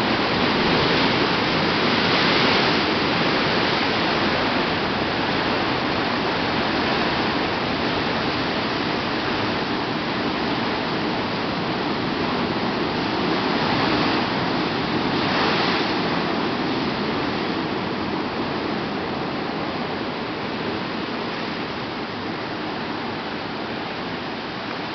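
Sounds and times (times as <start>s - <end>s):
ocean surf breaking: 0.0s - 24.9s.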